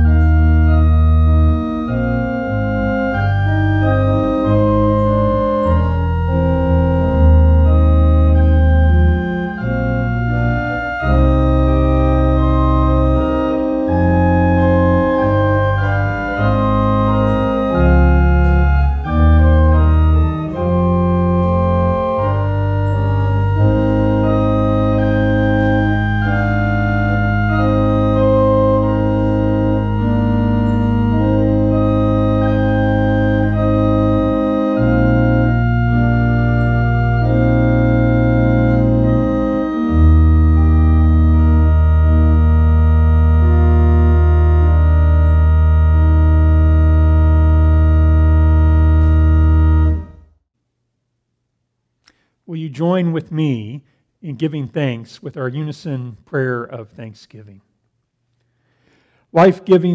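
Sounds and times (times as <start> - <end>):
organ playing sustained chords: 0.0 - 50.4, 58.7 - 59.9.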